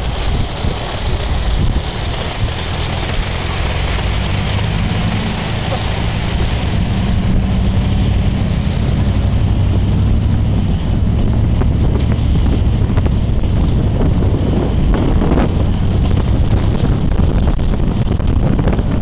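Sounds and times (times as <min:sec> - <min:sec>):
truck engine droning: 0:00.0 - 0:19.0
wind buffeting microphone: 0:00.0 - 0:19.0.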